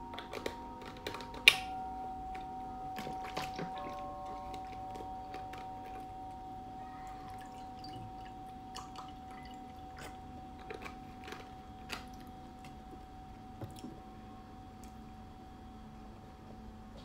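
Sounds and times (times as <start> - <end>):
steady ringing tone: 0.0 - 16.8.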